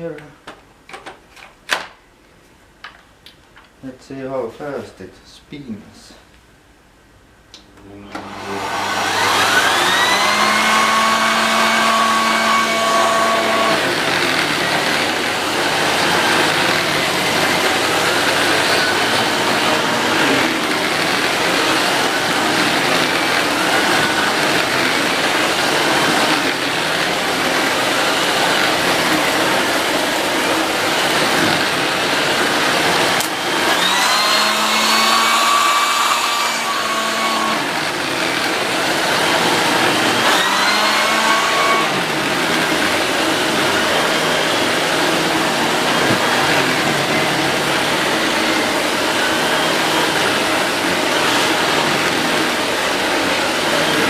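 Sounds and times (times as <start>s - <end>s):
vacuum cleaner running: 7.6s - 54.0s
whining tone: 7.8s - 54.0s.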